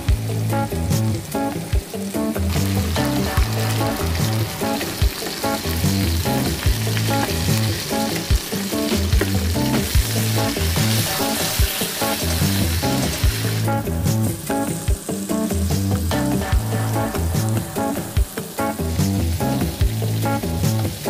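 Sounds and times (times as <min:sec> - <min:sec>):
background music with steady beat: 0:00.0 - 0:21.0
meat sizzling in a frying pan: 0:00.1 - 0:21.0.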